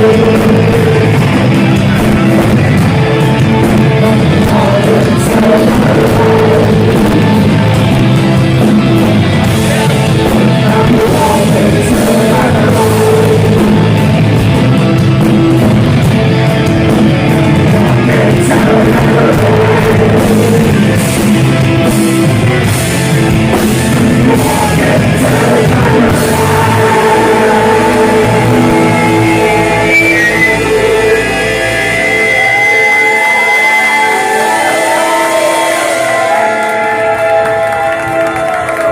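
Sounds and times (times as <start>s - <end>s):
person singing: 0.0s - 8.6s, 9.4s - 14.3s, 16.2s - 21.6s, 23.0s - 38.9s
distorted electric guitars: 0.0s - 38.9s
drum kit: 0.0s - 38.9s.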